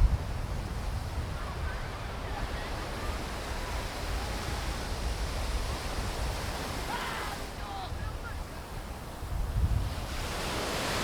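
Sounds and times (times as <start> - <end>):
wind rumbling on microphone: 0.0 - 6.8, 7.9 - 11.0
surf breaking on a beach: 0.0 - 11.0.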